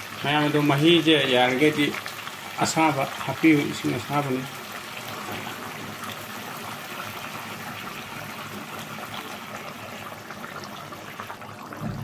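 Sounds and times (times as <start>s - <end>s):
pot of curry bubbling: 0.0s - 12.0s.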